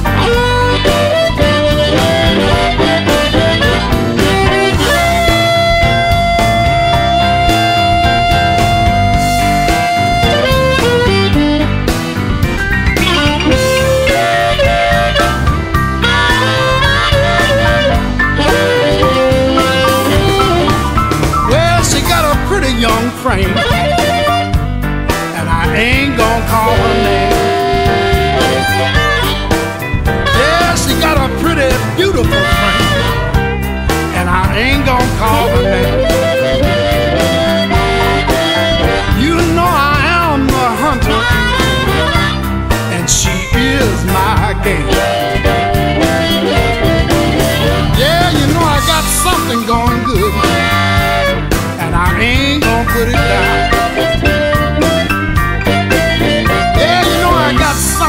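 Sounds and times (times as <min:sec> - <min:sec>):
blues band playing: 0:00.0 - 0:58.0
guitar: 0:00.0 - 0:58.0
harmonica bending notes: 0:00.0 - 0:58.0
steady drum beat: 0:00.0 - 0:58.0.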